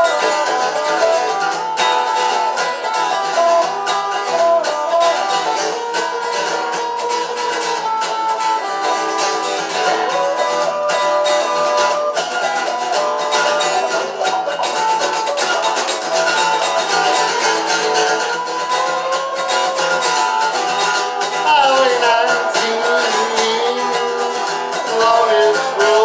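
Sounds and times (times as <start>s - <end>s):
folk music on plucked strings: 0.0s - 26.0s.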